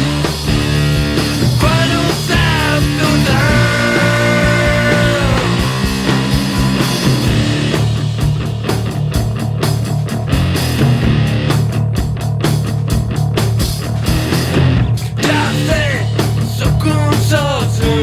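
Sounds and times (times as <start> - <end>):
drums playing: 0.0 - 18.0
electric guitars: 0.0 - 18.0.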